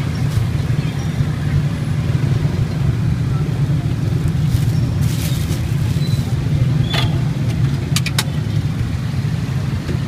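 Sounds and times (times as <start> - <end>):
low engine-like rumble: 0.0 - 10.0.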